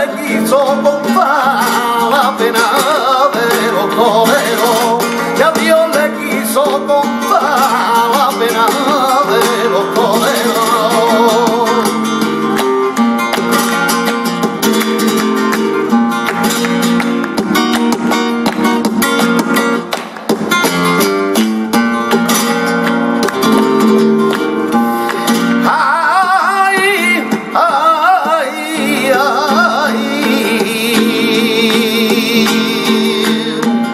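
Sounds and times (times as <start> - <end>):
man singing flamenco: 0.0 - 19.8, 20.5 - 33.9
flamenco guitar: 0.0 - 33.9
rhythmic handclapping: 0.0 - 33.9.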